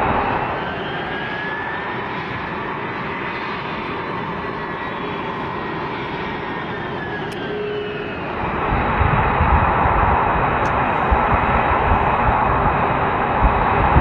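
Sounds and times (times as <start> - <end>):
jet engines roaring: 0.0 - 14.0
jet engines whining: 0.0 - 14.0.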